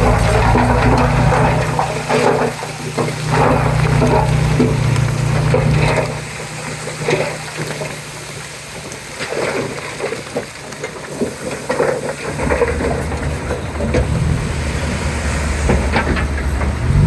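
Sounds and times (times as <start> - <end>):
bulldozer diesel engine: 0.0 - 17.0
tracks clanking and squeaking: 0.0 - 17.0.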